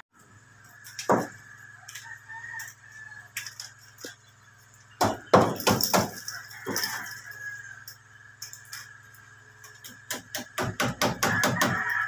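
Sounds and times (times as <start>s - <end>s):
chickens calling: 0.4s - 10.1s, 11.1s - 12.0s.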